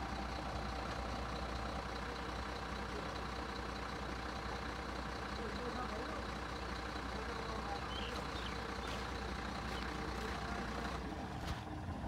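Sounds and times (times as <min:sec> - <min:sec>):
backhoe loader engine: 0:00.0 - 0:12.0
truck diesel engine: 0:00.0 - 0:12.0.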